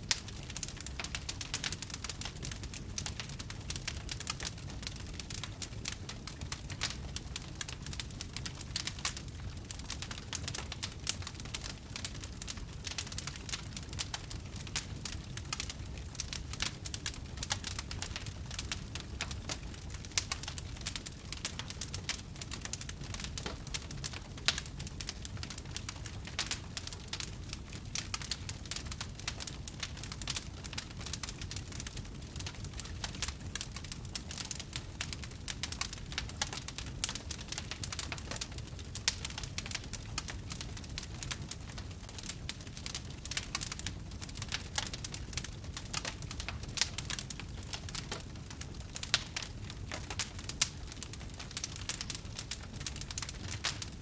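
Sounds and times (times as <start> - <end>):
campfire crackling and popping: 0.0 - 54.0
low rumble of fire: 0.0 - 54.0.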